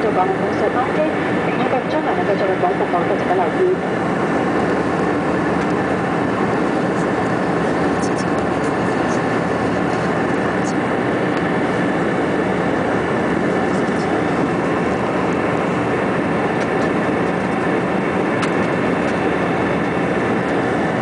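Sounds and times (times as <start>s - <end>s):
aircraft engine hum: 0.0s - 21.0s.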